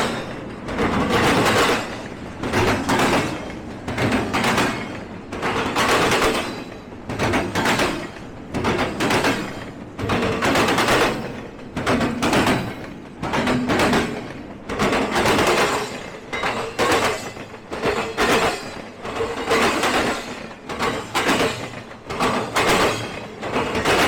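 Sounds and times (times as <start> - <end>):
train rolling rumble: 0.0 - 24.0
train wheels clacking on track: 0.0 - 24.0.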